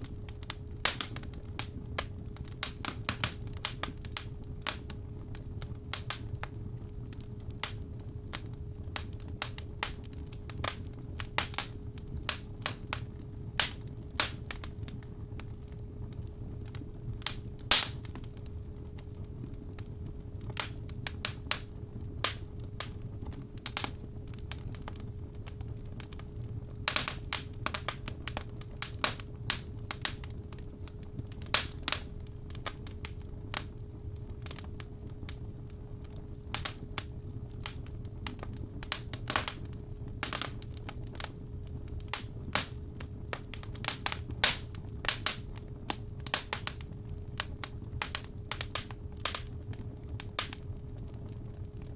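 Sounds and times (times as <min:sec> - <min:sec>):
fire crackling and popping: 0:00.0 - 0:51.9.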